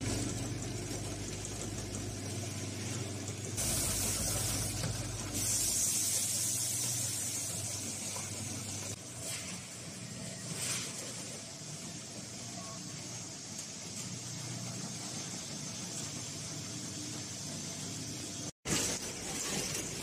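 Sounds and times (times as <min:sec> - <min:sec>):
vibratory feeder humming: 0:00.0 - 0:20.0.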